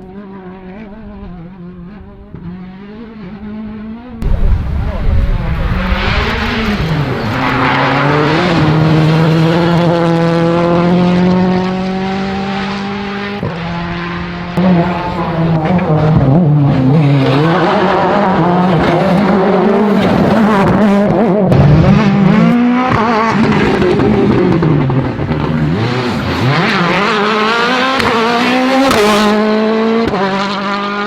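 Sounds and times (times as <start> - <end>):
turbocharged car engine revving: 0.0 - 31.0.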